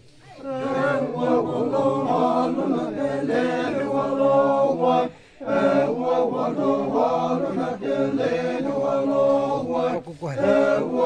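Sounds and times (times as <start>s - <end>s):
men chanting in unison: 0.2s - 11.0s.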